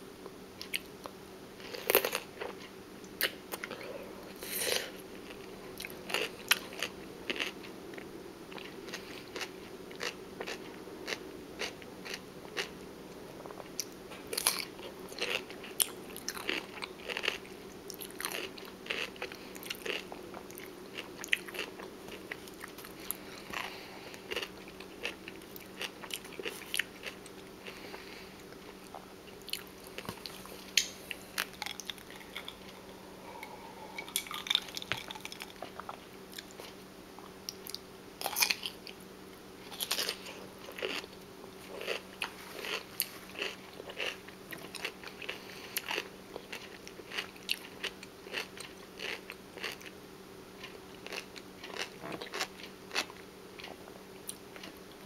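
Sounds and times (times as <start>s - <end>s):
crunchy food chewing: 0.6s - 39.0s, 39.6s - 50.0s, 50.6s - 55.0s.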